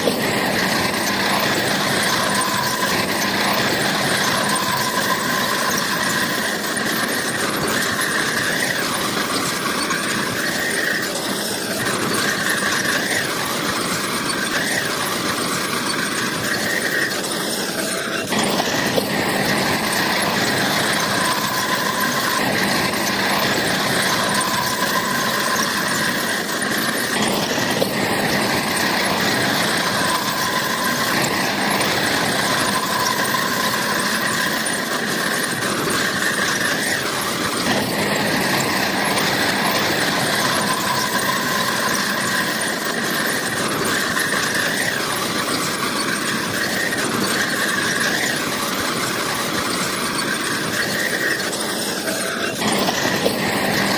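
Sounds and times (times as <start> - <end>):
bulldozer engine: 0.0 - 53.9
high metallic squeal: 0.0 - 53.9.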